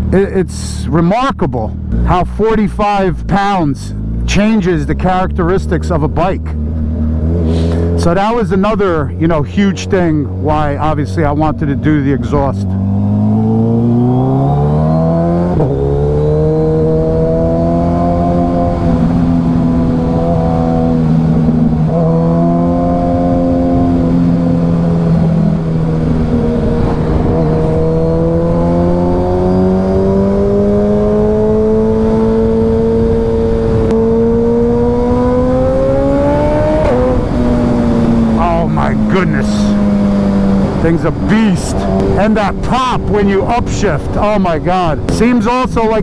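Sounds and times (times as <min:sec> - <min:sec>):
motorcycle engine accelerating: 0:01.6 - 0:46.0.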